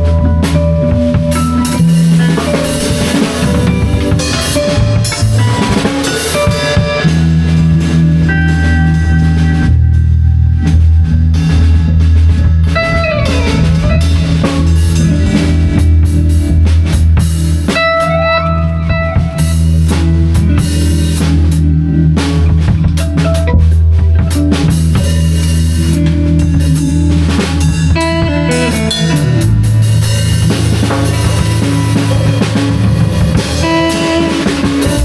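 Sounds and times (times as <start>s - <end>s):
drum kit with cymbals: 0.0s - 35.0s
sliding guitar notes: 0.0s - 35.0s
sustained low bass notes: 0.0s - 35.0s.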